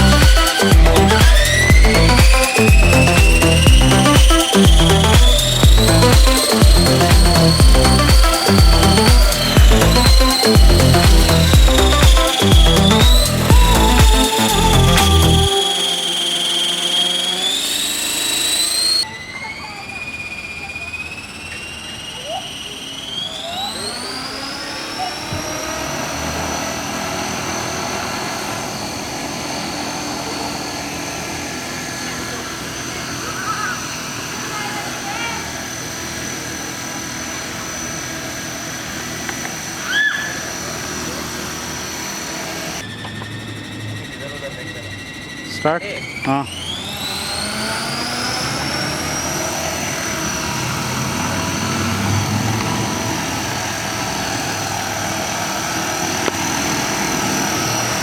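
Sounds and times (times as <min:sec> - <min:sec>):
electric motors whirring: 0:00.0 - 0:58.0.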